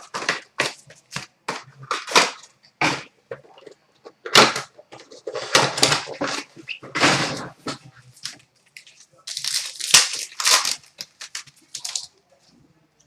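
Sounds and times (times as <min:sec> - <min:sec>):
cardboard and wrappers rustling: 0:00.0 - 0:12.2.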